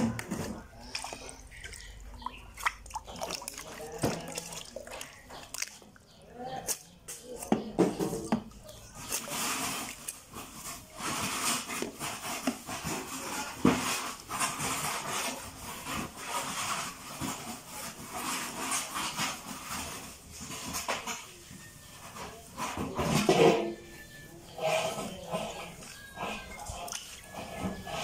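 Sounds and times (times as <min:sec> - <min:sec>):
splashing and squelching in water: 0:00.0 - 0:07.6, 0:08.2 - 0:19.6, 0:24.6 - 0:28.0.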